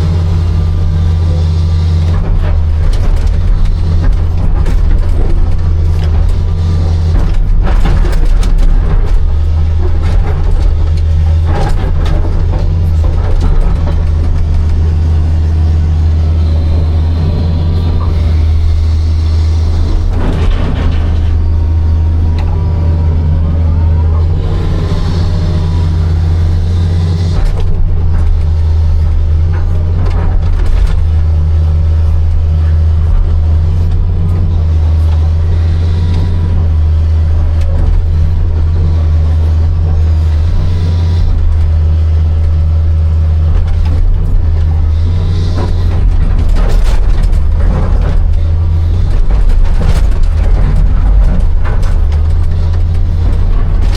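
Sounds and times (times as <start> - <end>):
excavator diesel engine running: 0.0 - 53.9
hydraulic whine: 0.0 - 53.9.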